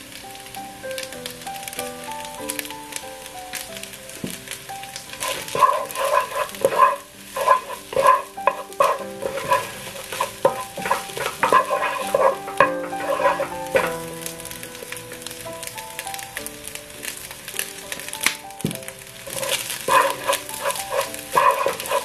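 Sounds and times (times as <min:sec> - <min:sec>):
rice sizzling in pan: 0:00.0 - 0:22.0
wooden spatula scraping wok: 0:02.5 - 0:22.0.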